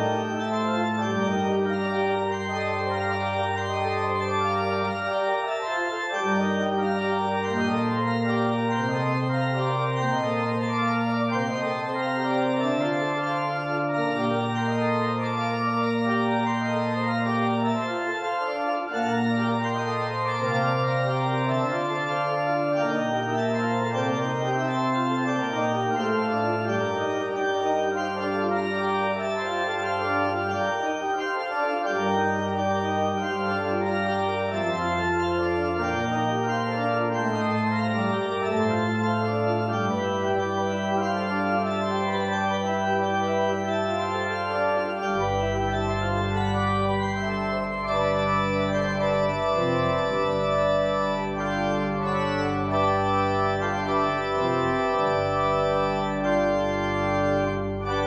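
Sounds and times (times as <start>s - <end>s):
deep organ pedal bass: 0.0s - 58.0s
sustained organ chords: 0.0s - 58.0s.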